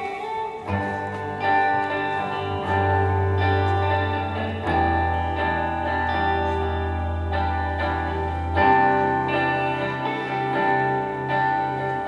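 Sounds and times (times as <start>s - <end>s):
electric guitars playing chords: 0.0s - 12.0s.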